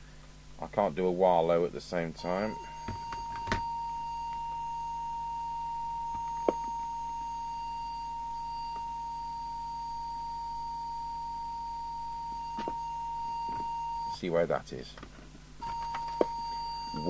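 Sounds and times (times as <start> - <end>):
steady pure test tone: 0.0 - 17.0.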